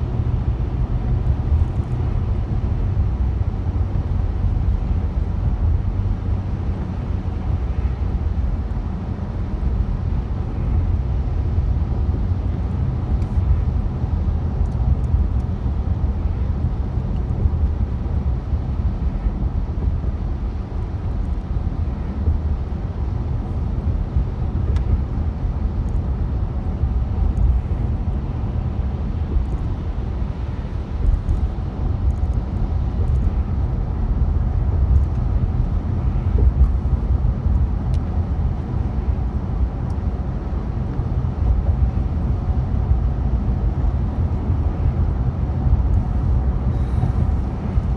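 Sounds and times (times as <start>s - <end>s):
car engine and tyre rumble: 0.0s - 47.9s.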